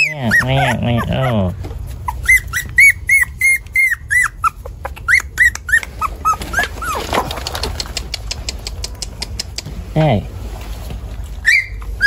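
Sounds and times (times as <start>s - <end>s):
puppy whimpering: 0.0s - 9.6s, 11.4s - 12.0s.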